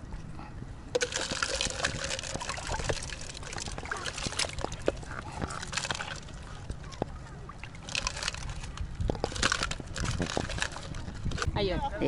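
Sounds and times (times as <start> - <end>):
water splash: 1.0 - 11.5
seawater sloshing among rocks: 1.0 - 12.0.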